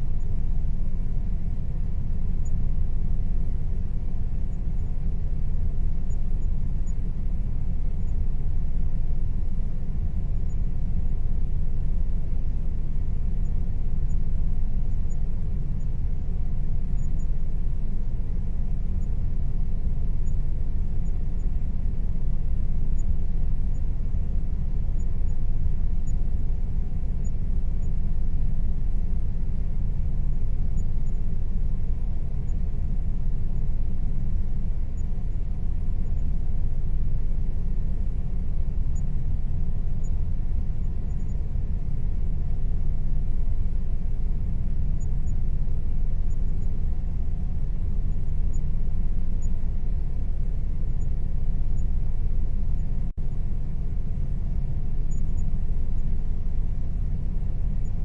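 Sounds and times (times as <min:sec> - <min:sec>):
faint steady tone: 0:00.0 - 0:58.0.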